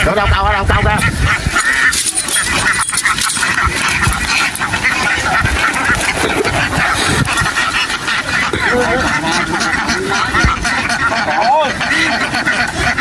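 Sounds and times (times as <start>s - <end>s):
ducks quacking: 0.0s - 13.0s.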